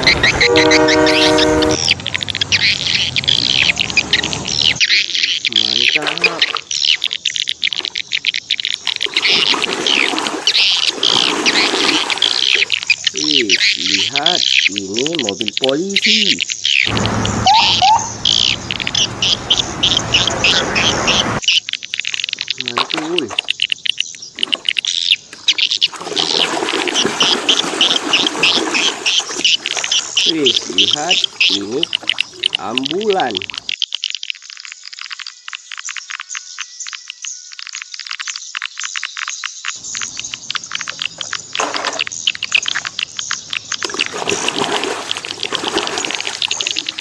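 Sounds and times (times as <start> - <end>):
frogs chirping: 0.0 - 47.0
water splashing in a basin: 1.9 - 20.2, 21.6 - 35.7, 39.7 - 47.0.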